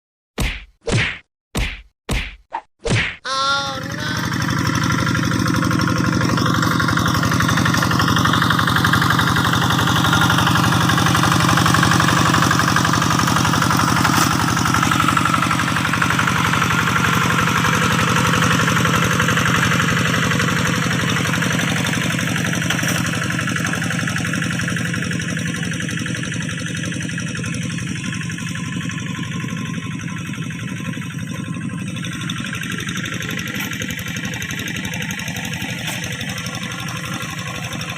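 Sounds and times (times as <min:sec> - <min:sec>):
diesel engine running: 0:03.3 - 0:37.9.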